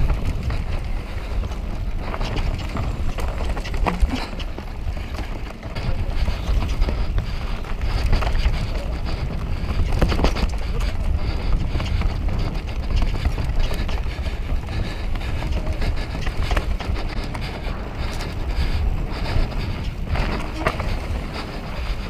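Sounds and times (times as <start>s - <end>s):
bike rattling and knocking: 0.0s - 22.0s
bike tyres rolling on dirt: 0.0s - 22.0s
wind on microphone: 0.0s - 22.0s.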